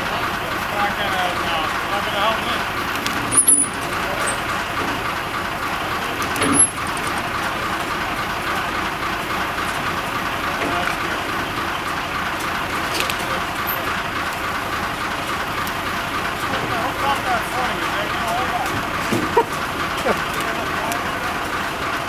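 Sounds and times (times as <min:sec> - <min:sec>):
heavy machinery running: 0:00.0 - 0:22.0.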